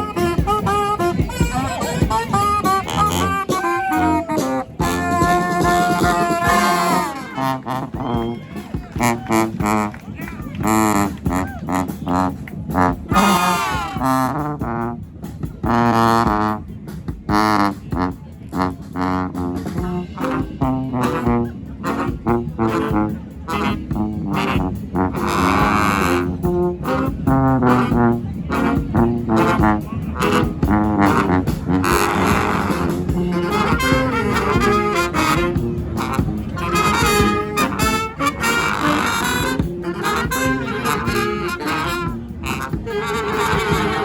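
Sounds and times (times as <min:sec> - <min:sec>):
brass band playing: 0:00.0 - 0:44.0.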